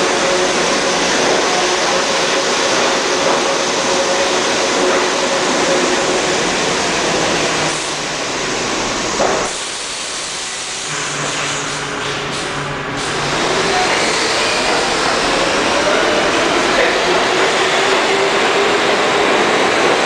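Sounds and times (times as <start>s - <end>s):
subway train wheels rushing: 0.0s - 20.0s.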